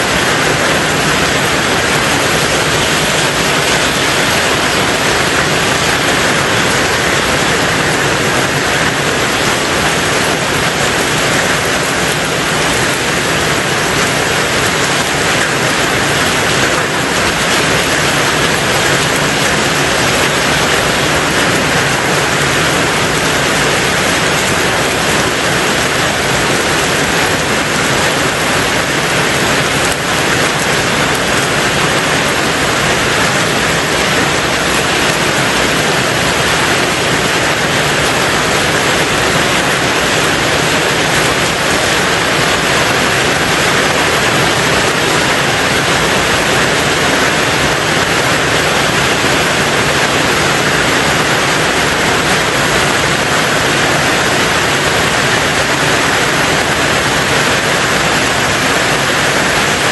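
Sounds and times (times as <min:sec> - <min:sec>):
rain on a tin roof: 0:00.0 - 0:59.9.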